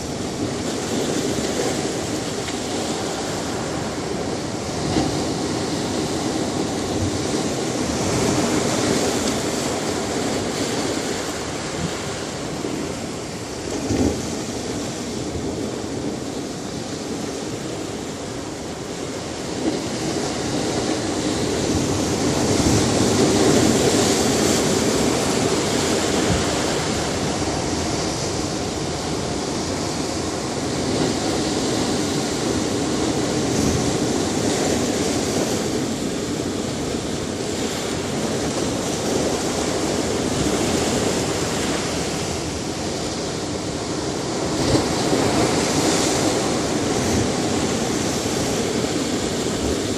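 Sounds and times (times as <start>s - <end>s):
ocean surf washing on beach: 0.0s - 49.9s.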